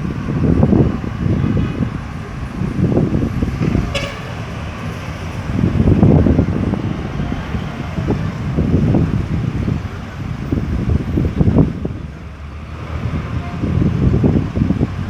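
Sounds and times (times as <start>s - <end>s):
vehicles passing: 0.0s - 15.0s
wind on microphone: 0.0s - 15.0s.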